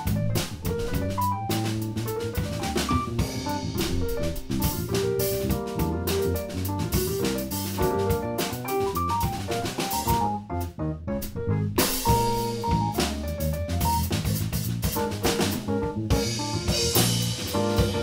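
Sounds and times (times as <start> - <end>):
bass line: 0.0 - 18.0
drum kit with cymbals: 0.0 - 18.0.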